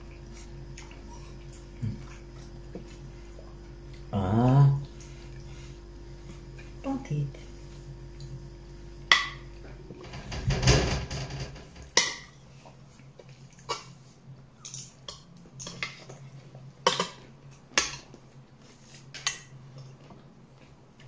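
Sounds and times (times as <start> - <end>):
soft eating noises: 0.0 - 10.1, 11.9 - 21.0.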